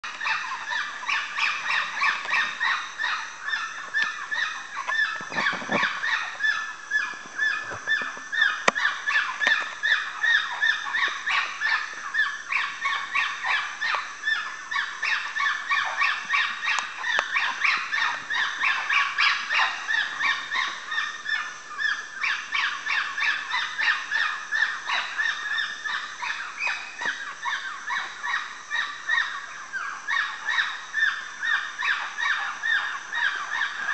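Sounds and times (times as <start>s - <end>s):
monkeys calling: 0.1s - 33.9s.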